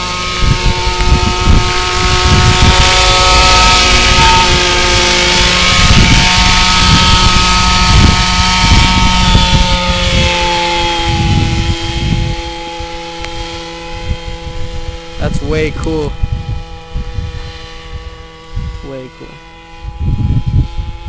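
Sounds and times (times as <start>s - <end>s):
model helicopter engine whine: 0.0s - 21.0s
wind rumble on microphone: 0.0s - 21.0s.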